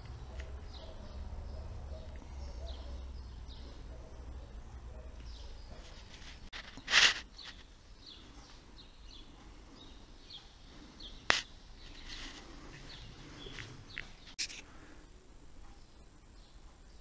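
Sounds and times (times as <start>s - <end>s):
bird chirps: 0.0s - 14.6s.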